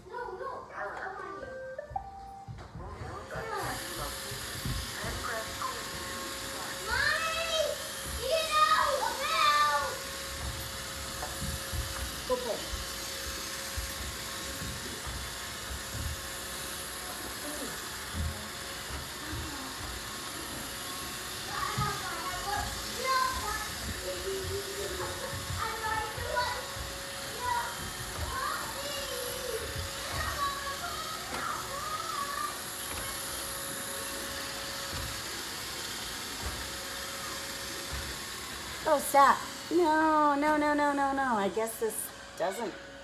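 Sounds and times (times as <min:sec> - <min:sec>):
robot vacuum whirring: 0:02.8 - 0:43.0.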